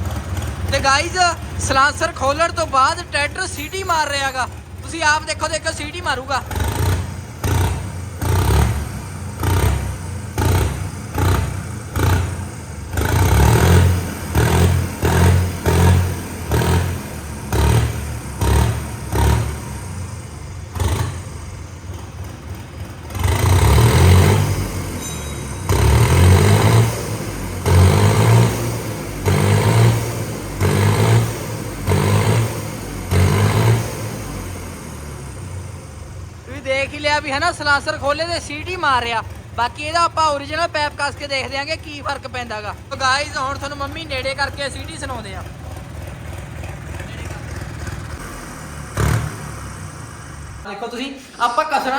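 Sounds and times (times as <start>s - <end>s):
exhaust whistle: 0.0s - 41.6s, 46.9s - 51.8s
tractor engine revving: 0.0s - 51.9s.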